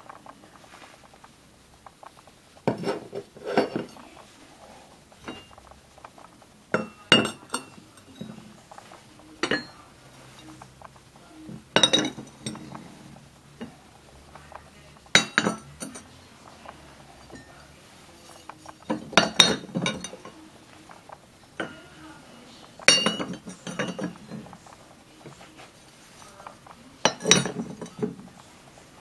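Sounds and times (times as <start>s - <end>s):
ceramic cups clinking: 2.6s - 4.5s, 5.1s - 28.6s.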